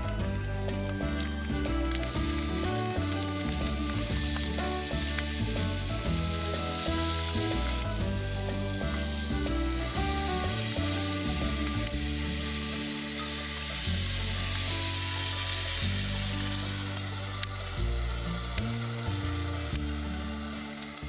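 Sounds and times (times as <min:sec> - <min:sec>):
background music: 0:00.0 - 0:21.0
food sizzling in a pan: 0:00.0 - 0:21.0.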